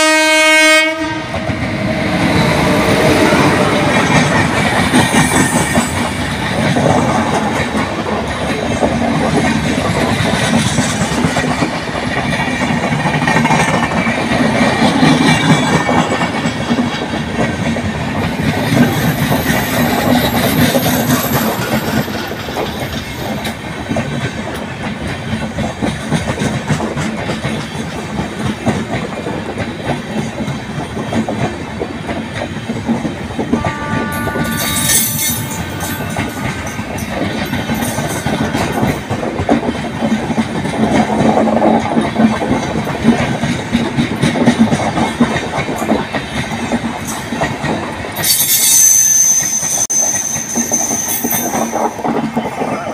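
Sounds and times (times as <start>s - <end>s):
train wheels clattering over joints: 1.4s - 33.6s, 34.4s - 52.9s.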